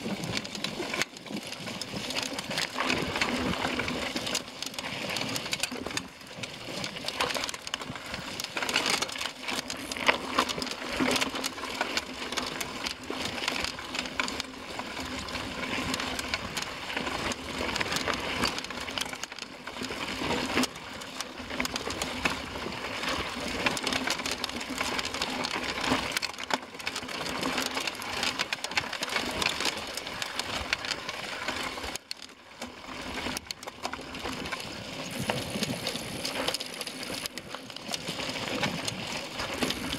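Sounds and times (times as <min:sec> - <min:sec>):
mountain bike rattling: 0:00.0 - 0:39.9.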